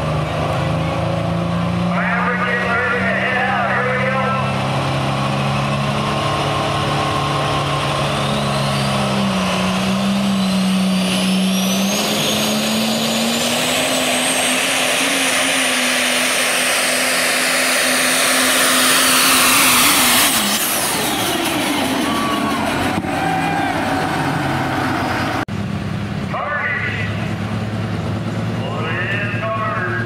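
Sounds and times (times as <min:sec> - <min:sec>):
diesel engine running hard: 0:00.0 - 0:30.0
turbocharger whine: 0:00.0 - 0:30.0.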